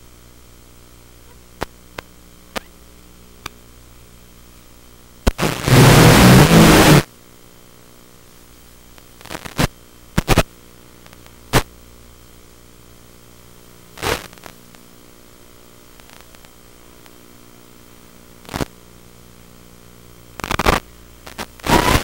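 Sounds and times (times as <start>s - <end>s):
electrical hum and hiss: 0.0s - 22.0s
static crackles: 0.1s - 22.0s.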